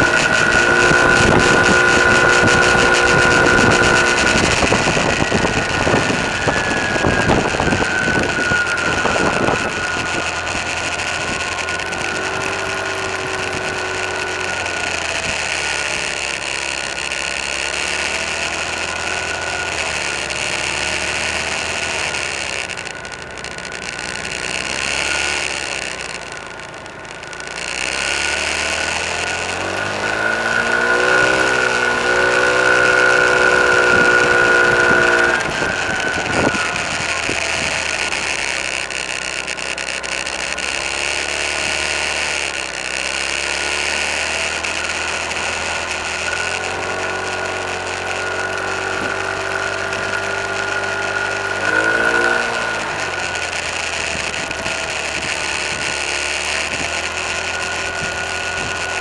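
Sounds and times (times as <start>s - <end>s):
car engine revving: 0.0s - 59.0s
road noise inside car: 0.0s - 59.0s.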